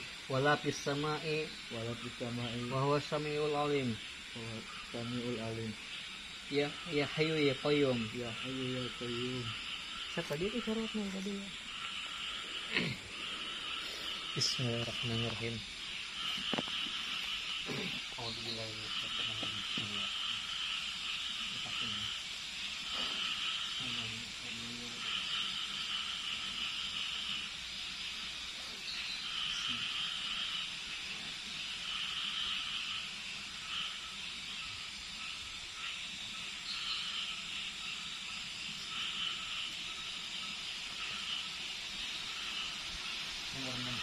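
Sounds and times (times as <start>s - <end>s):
high shrill insect buzzing: 0.0s - 44.0s.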